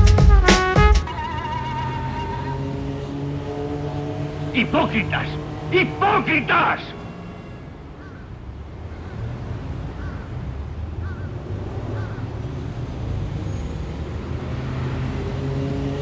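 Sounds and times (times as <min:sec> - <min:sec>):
road traffic rumble: 0:00.3 - 0:16.0.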